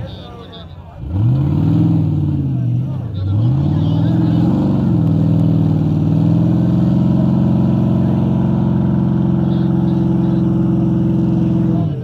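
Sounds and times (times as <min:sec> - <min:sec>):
truck engine at high revs: 0:00.0 - 0:12.0.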